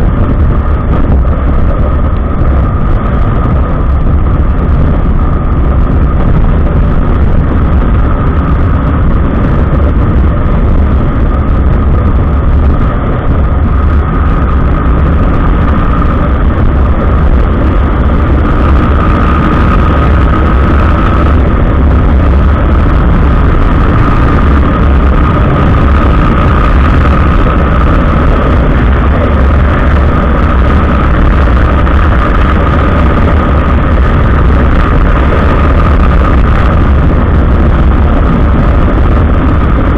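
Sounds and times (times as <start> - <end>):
motorcycle running: 0.0 - 39.9
wind and road noise: 0.0 - 39.9.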